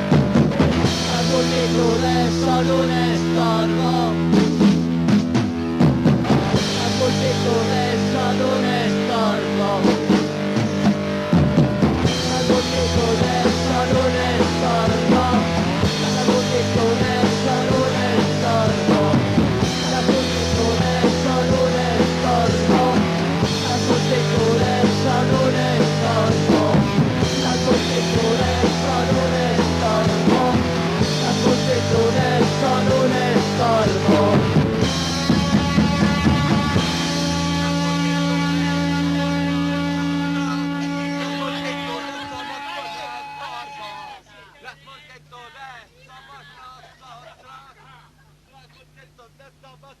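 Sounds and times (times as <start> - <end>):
driving drum kit: 0.0 - 44.1
punk rock band playing: 0.0 - 45.3.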